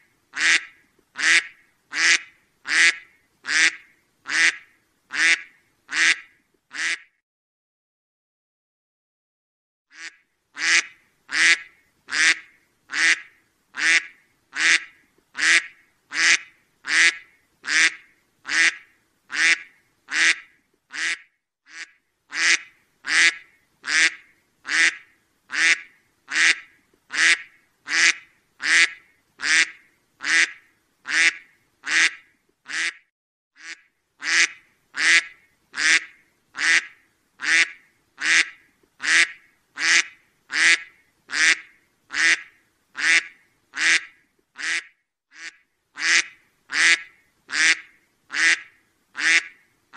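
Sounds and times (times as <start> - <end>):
duck quacking: 0.4 - 7.1, 9.9 - 33.0, 33.6 - 49.6.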